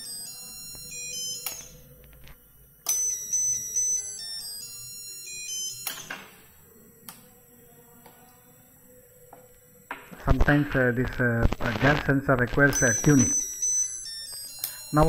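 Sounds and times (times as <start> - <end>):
buzzer playing electronic melody: 0.0 - 7.9, 10.8 - 15.0.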